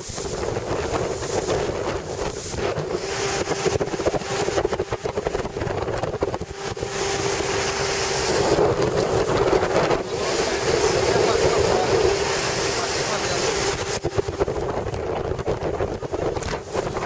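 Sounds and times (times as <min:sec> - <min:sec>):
boat engine drone: 0:00.0 - 0:17.0
water rushing past hull: 0:00.0 - 0:17.0
wind buffeting microphone: 0:00.0 - 0:17.0.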